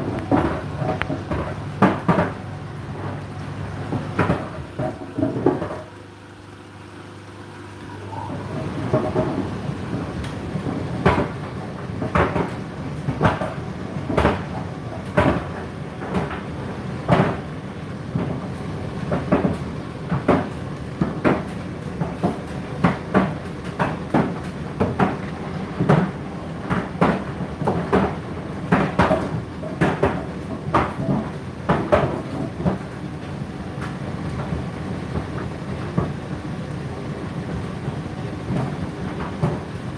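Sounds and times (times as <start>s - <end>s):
laundry drum humming: 0.0s - 39.9s.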